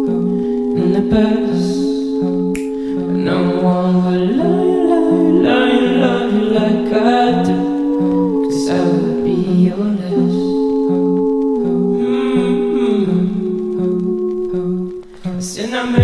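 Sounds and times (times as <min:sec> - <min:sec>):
long held chords: 0:00.0 - 0:16.0
wordless vocal melody: 0:00.0 - 0:16.0.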